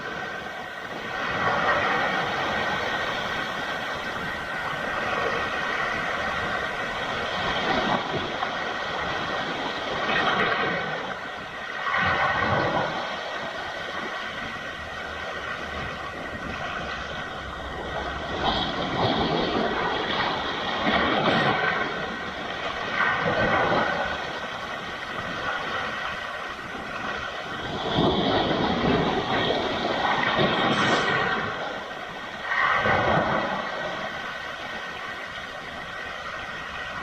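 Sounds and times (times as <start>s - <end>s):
sea waves breaking on rocks: 0.0s - 37.0s.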